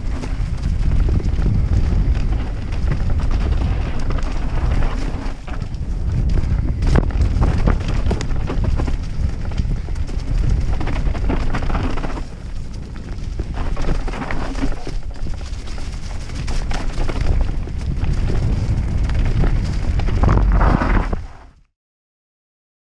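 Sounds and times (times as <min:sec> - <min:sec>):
mountain bike clattering: 0:00.0 - 0:21.0
bike knocking over roots: 0:00.0 - 0:21.2
wind rumble on microphone: 0:00.0 - 0:21.7.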